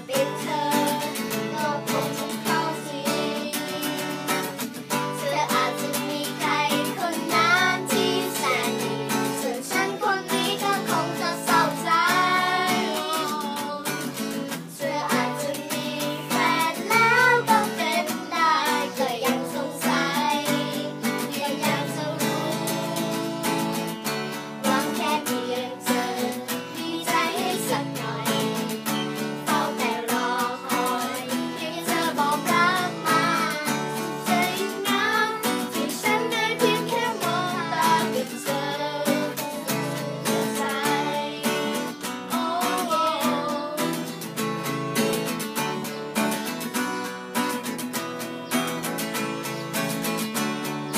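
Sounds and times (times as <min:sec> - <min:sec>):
girls singing together: 0:00.0 - 0:44.4
strummed acoustic guitar: 0:00.0 - 0:50.9.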